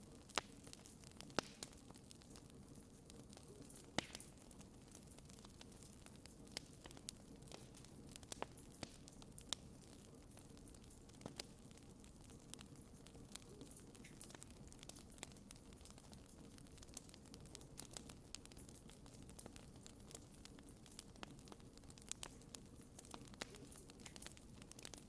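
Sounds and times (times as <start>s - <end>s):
campfire crackling and popping: 0.0s - 25.0s
flames rustling: 0.0s - 25.0s.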